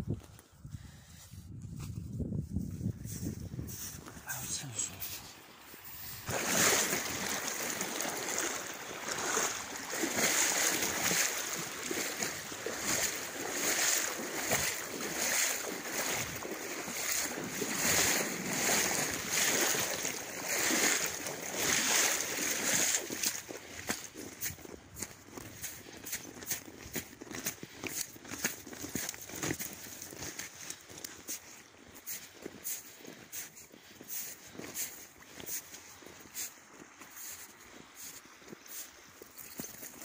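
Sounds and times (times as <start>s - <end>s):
water sloshing from wading: 4.3s - 40.0s.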